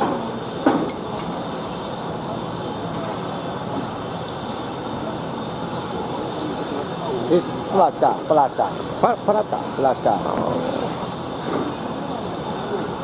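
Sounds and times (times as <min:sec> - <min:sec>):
oil sizzling on griddle: 0:00.0 - 0:13.0.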